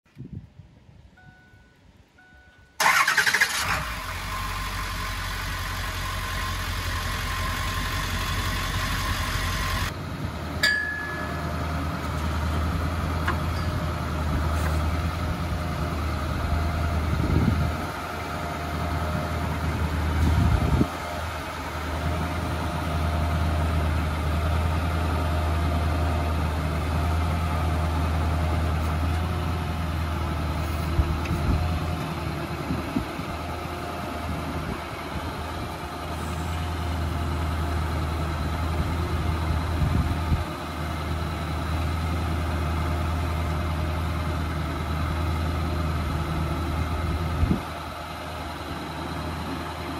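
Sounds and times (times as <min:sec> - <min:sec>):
truck engine starting and running: 0:00.1 - 0:49.9.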